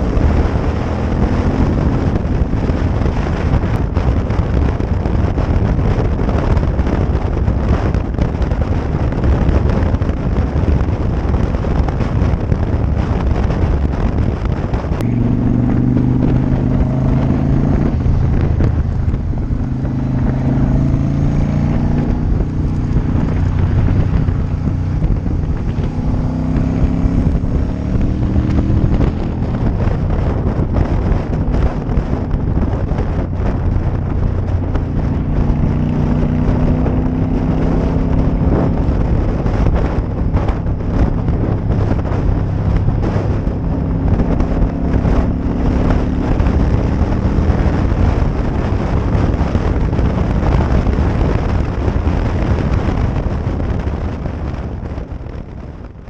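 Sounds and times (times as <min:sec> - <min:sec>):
motorcycle engine changing gears: 0:00.0 - 0:56.0
wind noise on microphone: 0:00.0 - 0:56.0.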